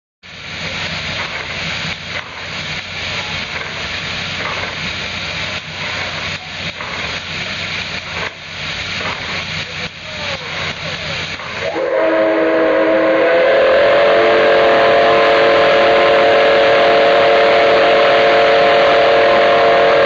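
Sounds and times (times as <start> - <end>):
steam hissing: 0.2 - 20.0.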